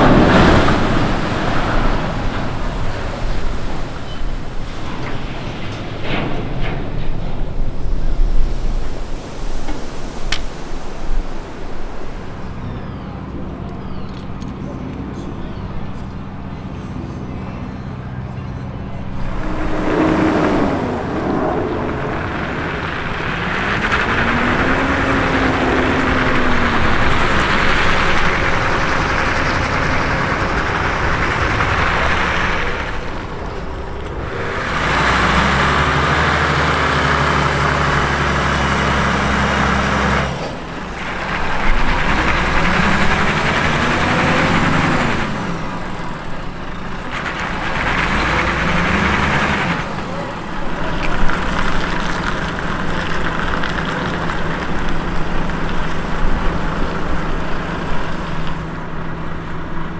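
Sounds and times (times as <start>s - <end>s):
truck diesel engine revving: 0.0s - 59.9s.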